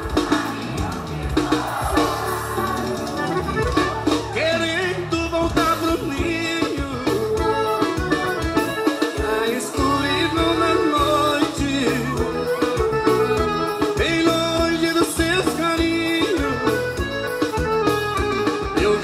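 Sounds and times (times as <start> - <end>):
song with steady bass beat: 0.0 - 19.0.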